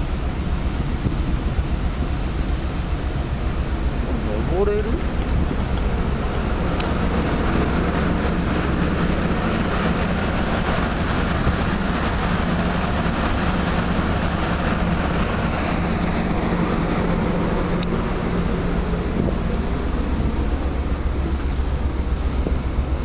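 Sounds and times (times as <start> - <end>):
rushing noise: 0.0 - 23.0
ship machinery drone: 0.0 - 23.0.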